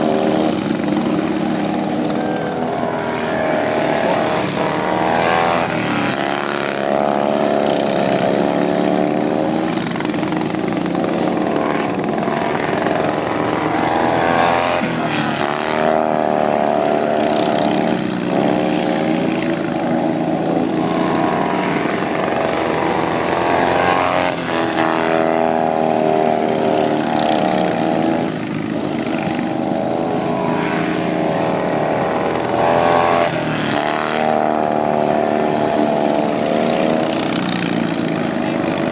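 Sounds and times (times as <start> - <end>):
lawn mower engines revving: 0.0 - 38.9.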